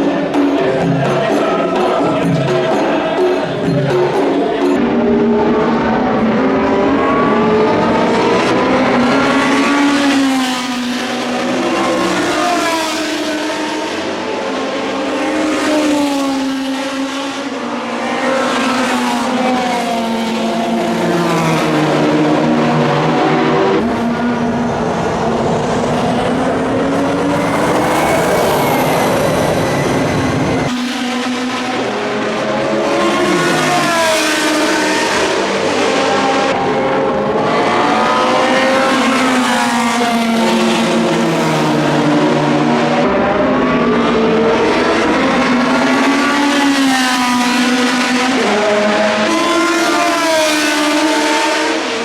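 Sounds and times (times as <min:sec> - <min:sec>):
race cars at full throttle: 0:00.0 - 0:52.0.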